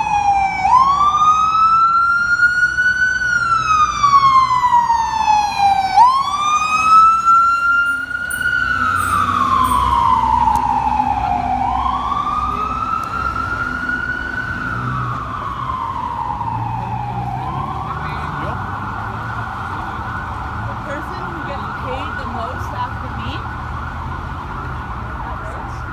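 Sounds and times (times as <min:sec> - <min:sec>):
fire engine siren wailing: 0:00.0 - 0:25.9
truck engine rumble: 0:00.0 - 0:25.9.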